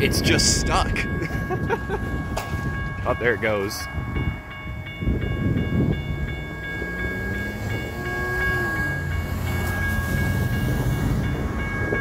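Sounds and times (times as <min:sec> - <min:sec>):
crossing warning bell ringing: 0:00.0 - 0:12.0
traffic rumble: 0:00.0 - 0:12.0
wind rumble: 0:00.0 - 0:12.0.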